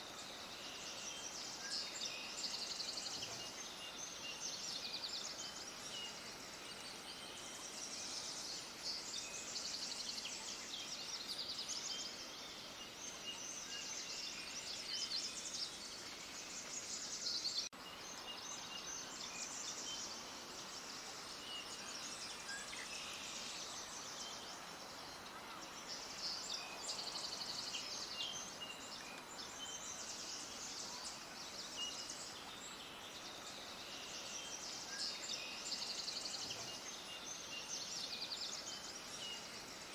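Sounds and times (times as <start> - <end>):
faint background hiss: 0.0 - 39.9
small birds chirping: 0.0 - 39.9.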